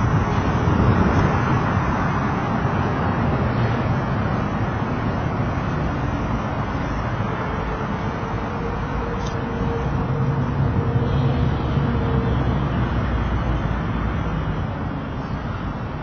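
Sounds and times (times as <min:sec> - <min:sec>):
passing car traffic: 0:00.0 - 0:16.0
wind noise on microphone: 0:00.0 - 0:16.0.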